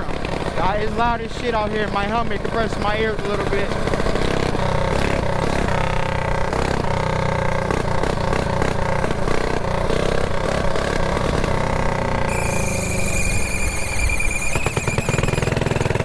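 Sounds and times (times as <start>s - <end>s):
mini bike engine running: 0.0s - 16.0s
clatter: 2.5s - 16.0s.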